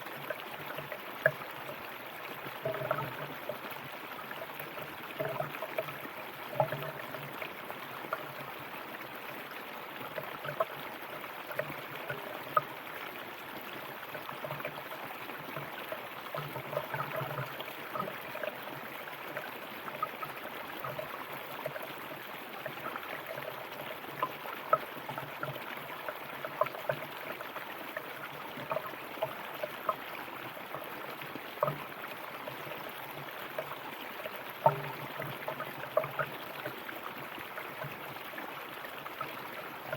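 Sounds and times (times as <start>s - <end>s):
river water flowing: 0.0s - 39.9s
water splashing and gurgling: 0.0s - 39.9s.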